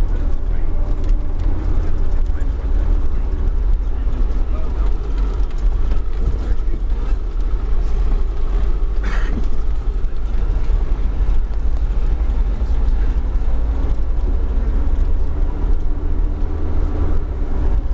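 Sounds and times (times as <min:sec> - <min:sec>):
vehicle engine and tyre rumble: 0:00.0 - 0:17.9.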